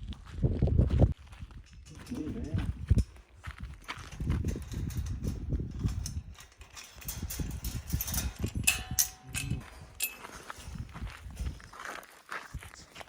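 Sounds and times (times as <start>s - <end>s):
footsteps on dirt path: 0.0s - 13.0s.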